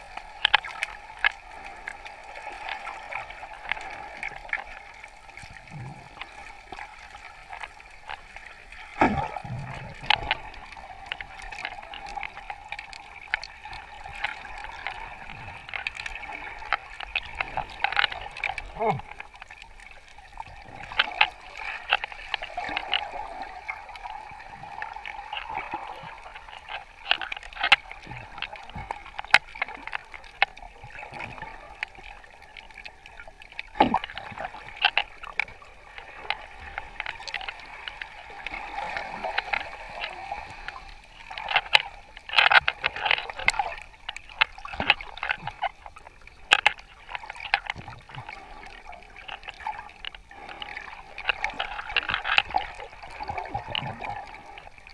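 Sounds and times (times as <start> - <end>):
sharp clicks and crackles: 0.0 - 54.9
water gurgling and sloshing: 0.0 - 54.9.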